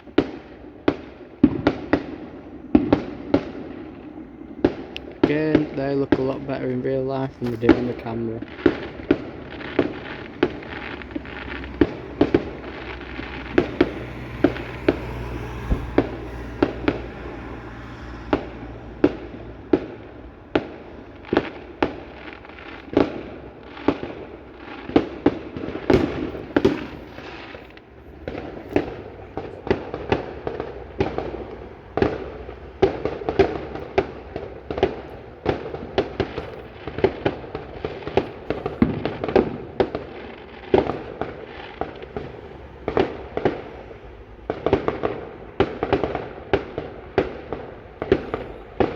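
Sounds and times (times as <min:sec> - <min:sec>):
fireworks exploding: 0:00.0 - 0:48.9.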